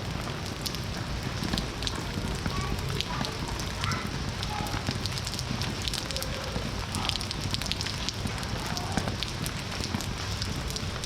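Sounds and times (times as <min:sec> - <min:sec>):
steady rain pattering: 0:00.0 - 0:11.0.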